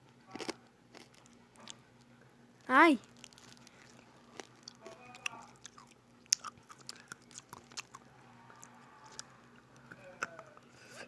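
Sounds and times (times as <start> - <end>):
person chewing close to microphone: 0.3 - 1.8, 3.1 - 10.7.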